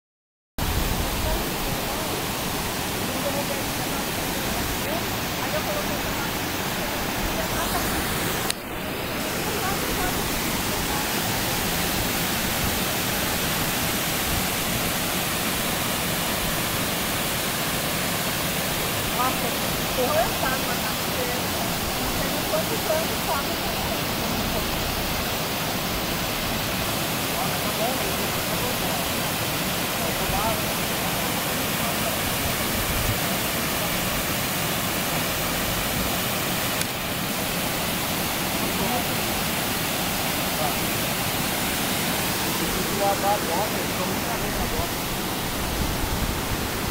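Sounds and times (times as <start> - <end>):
waterfall rushing into a pool: 0.6 - 46.9.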